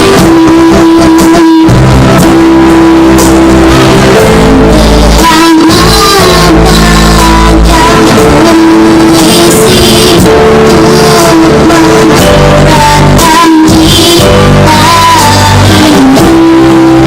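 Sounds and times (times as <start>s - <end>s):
instrumental accompaniment with bass: 0.0s - 17.0s
person singing: 0.0s - 17.0s.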